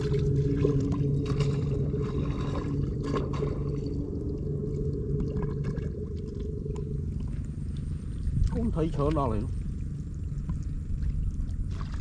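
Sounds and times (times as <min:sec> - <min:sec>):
low steady rumble: 0:00.0 - 0:12.0
water sloshing and pouring: 0:00.0 - 0:12.0.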